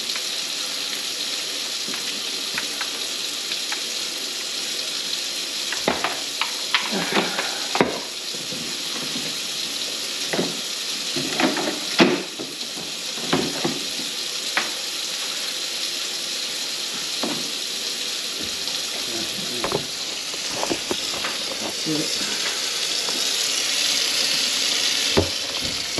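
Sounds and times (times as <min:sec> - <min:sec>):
water running into sink: 0:00.0 - 0:25.9.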